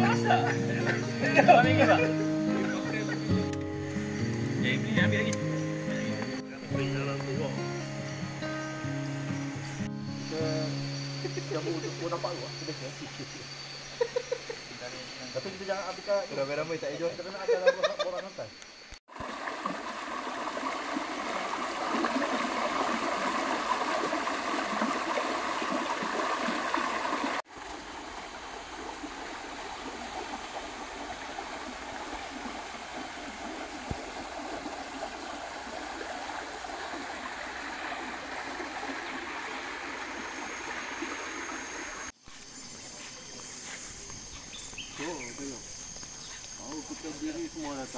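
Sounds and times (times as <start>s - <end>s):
stream running over rocks: 0.0s - 13.9s, 19.1s - 47.9s.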